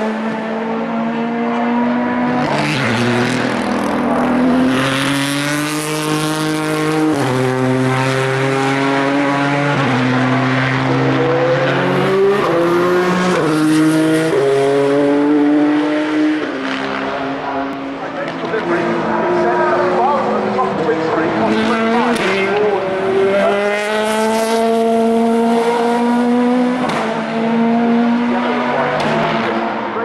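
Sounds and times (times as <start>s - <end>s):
race car engines accelerating: 0.0s - 30.0s.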